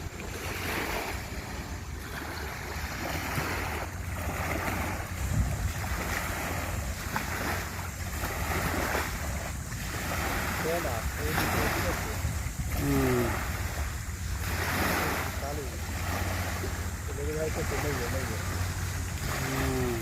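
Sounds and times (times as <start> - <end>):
sea waves washing in: 0.0 - 20.0
wind rumble on microphone: 0.0 - 20.0.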